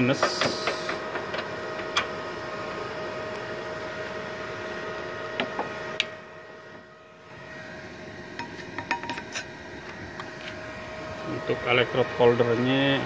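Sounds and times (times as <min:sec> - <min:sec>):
cooling fan running: 0:00.0 - 0:13.0
welding machine humming: 0:00.0 - 0:13.0.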